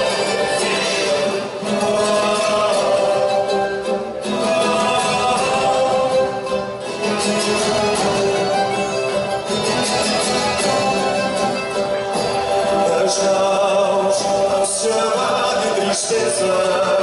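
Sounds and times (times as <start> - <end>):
guitars and mandolins playing: 0.0 - 17.0.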